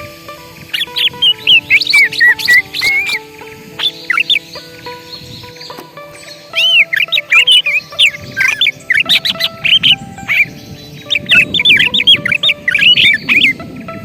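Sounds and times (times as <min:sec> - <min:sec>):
bird singing whistled notes: 0:00.6 - 0:13.6.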